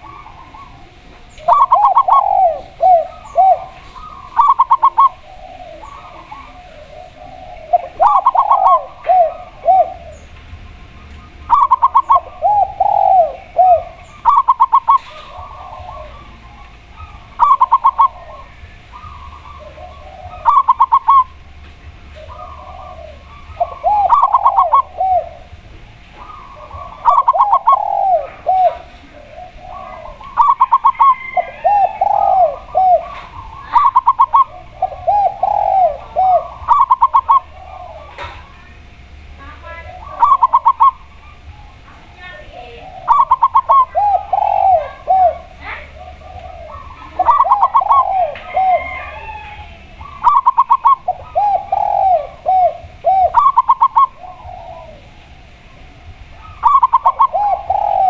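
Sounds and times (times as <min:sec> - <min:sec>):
doves cooing: 0:00.0 - 0:58.0
faint low hum: 0:00.0 - 0:58.0.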